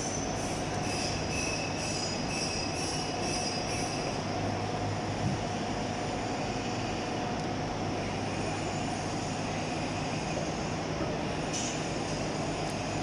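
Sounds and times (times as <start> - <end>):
faint steady whine: 0.0 - 13.0
machinery droning: 0.0 - 13.0.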